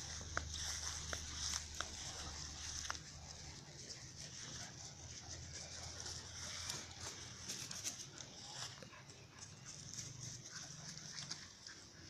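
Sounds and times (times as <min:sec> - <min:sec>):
paws scuffling on grass: 0:00.0 - 0:12.0.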